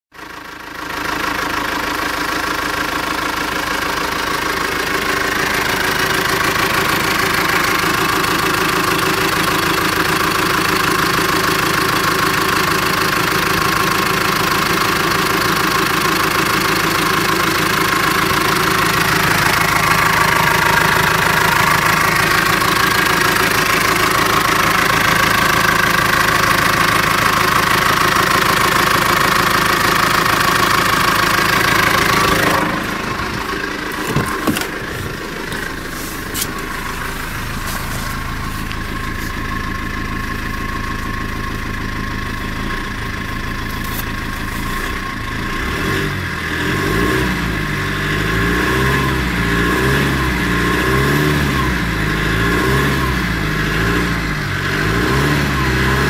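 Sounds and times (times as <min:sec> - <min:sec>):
diesel engine idling: 0:00.1 - 0:56.0.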